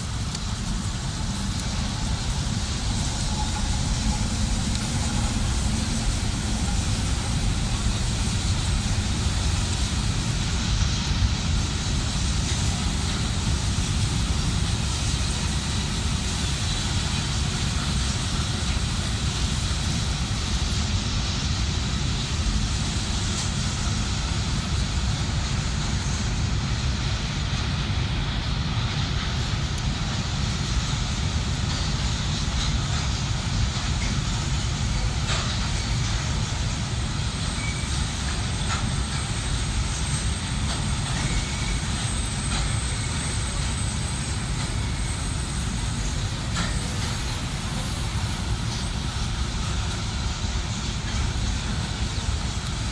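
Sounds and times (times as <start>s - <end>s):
train wheels rumbling on track: 0.0s - 52.9s.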